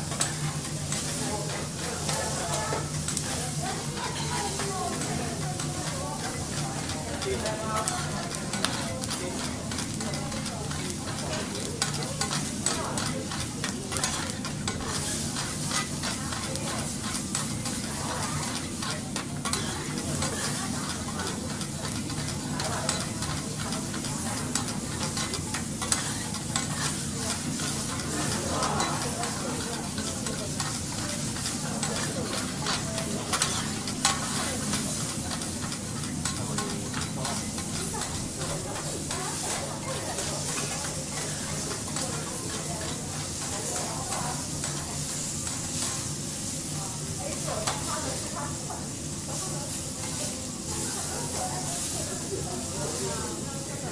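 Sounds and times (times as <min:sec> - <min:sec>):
metal spatulas clicking and scraping: 0:00.0 - 0:53.4
food sizzling on a griddle: 0:00.0 - 0:53.9.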